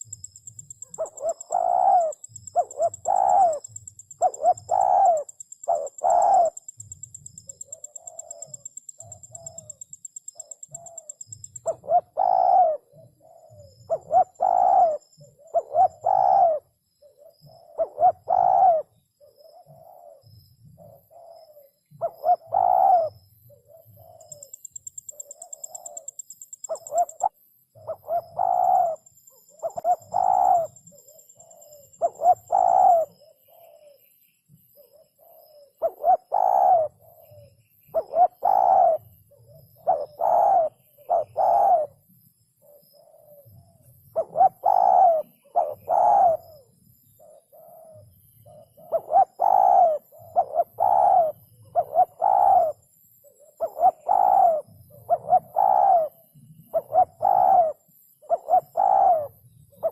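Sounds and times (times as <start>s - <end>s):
dove cooing: 0.0s - 34.1s, 34.7s - 42.0s, 42.6s - 59.9s.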